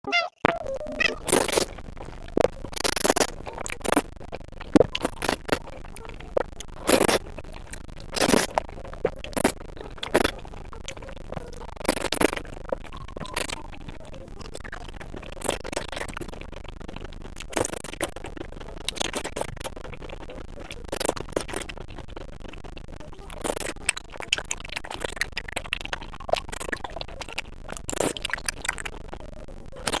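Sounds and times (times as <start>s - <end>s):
chewing sounds: 0.1s - 22.6s, 23.2s - 29.1s.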